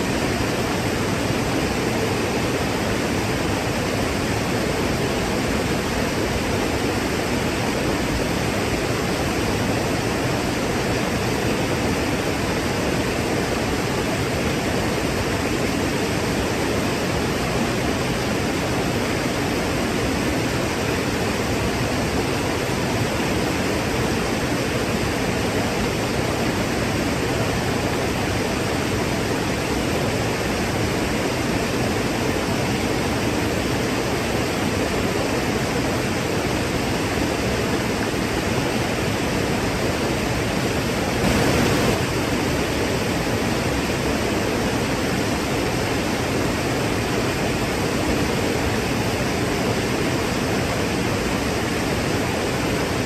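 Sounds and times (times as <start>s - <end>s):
waterfall crashing: 0.0s - 53.0s.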